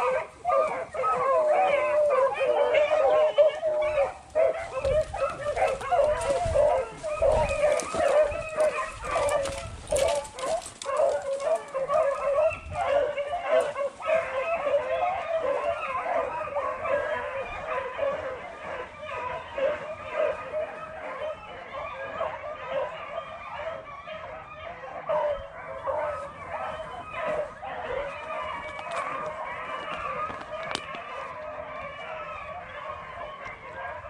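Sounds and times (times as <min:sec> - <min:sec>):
dogs baying and howling: 0:00.0 - 0:34.0.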